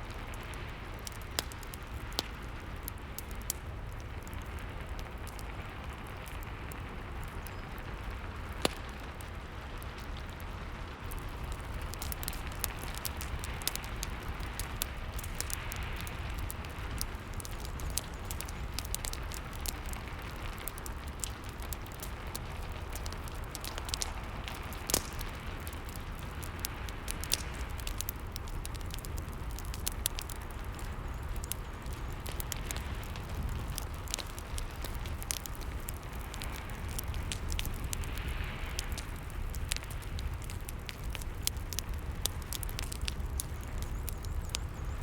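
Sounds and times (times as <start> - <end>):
fireplace crackling: 0.0 - 45.0.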